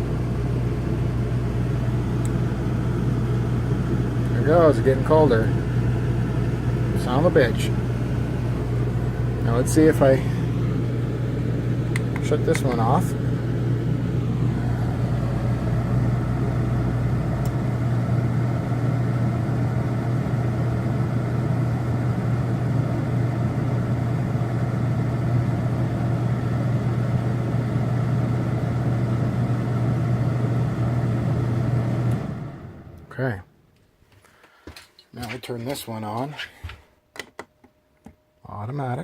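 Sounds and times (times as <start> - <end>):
low motor hum: 0.0 - 33.1
air conditioner fan blowing: 0.0 - 37.3.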